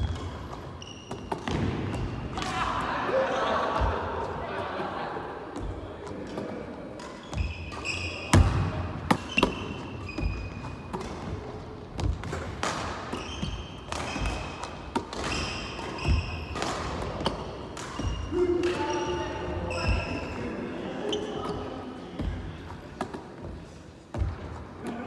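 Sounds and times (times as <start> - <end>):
sneaker squeaks: 0.0 - 2.4, 5.6 - 25.0.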